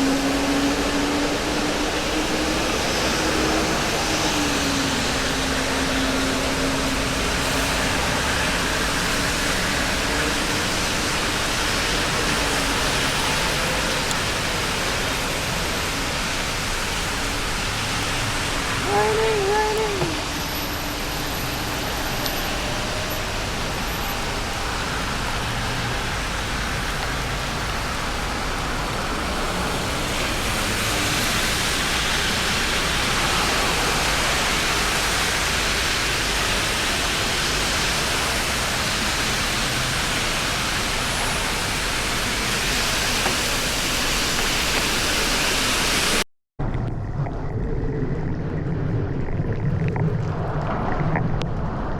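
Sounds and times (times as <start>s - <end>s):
tyres on wet road: 0.0s - 46.2s.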